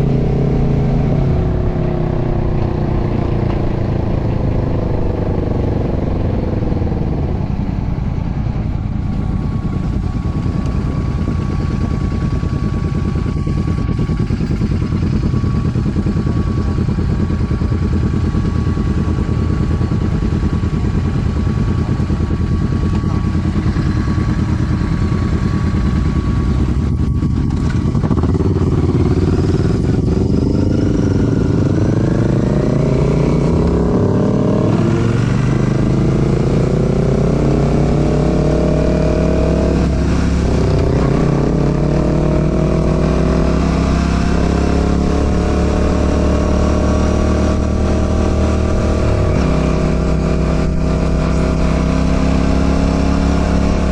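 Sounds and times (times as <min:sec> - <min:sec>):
motorcycle engine and exhaust: 0:00.0 - 0:53.9.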